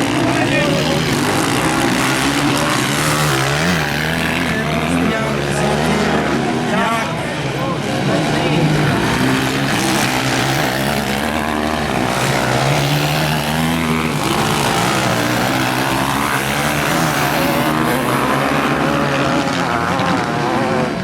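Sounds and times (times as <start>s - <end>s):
motocross bike engines racing: 0.0s - 21.0s.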